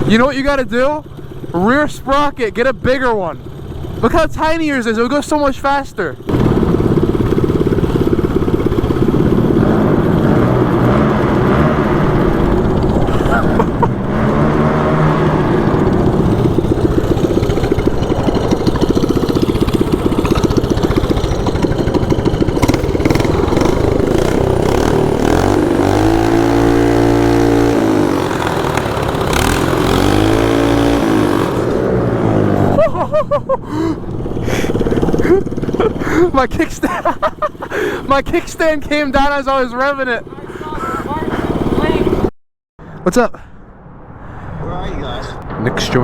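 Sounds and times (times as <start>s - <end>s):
small petrol engine revving: 0.0s - 42.3s.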